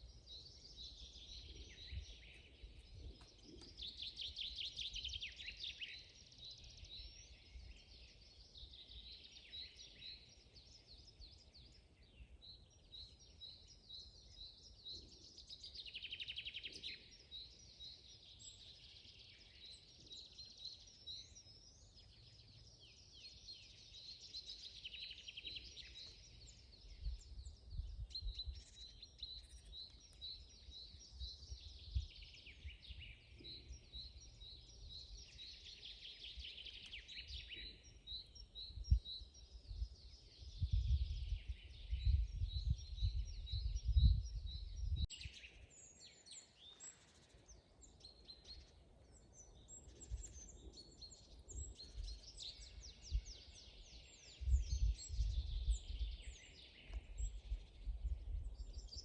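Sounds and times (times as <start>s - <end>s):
songbirds singing with trills: 0.0s - 59.0s.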